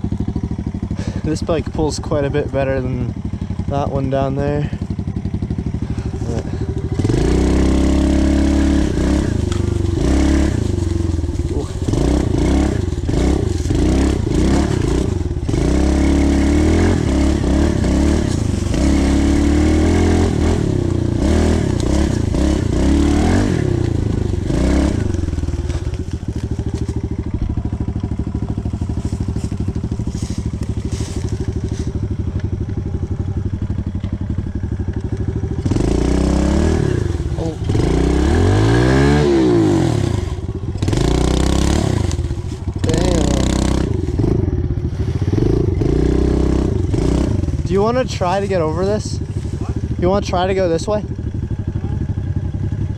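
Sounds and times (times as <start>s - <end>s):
pit bike engine revving: 0.0s - 52.9s.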